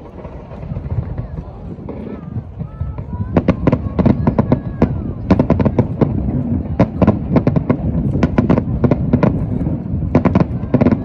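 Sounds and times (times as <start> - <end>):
continuous low rumble: 0.0 - 11.0
fireworks bangs and crackles: 0.0 - 11.0.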